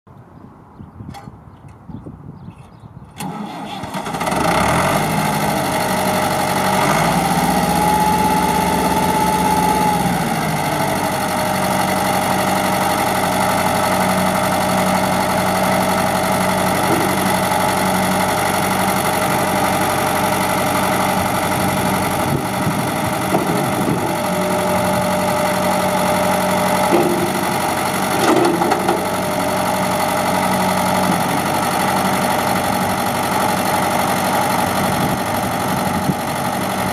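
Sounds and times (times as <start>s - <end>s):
diesel tractor engine running: 3.1s - 36.9s.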